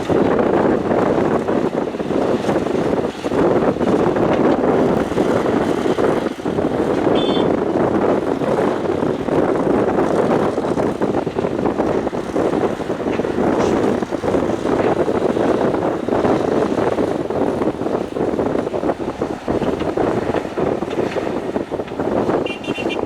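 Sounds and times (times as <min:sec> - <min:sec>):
excavator diesel engine running: 0:04.0 - 0:23.0.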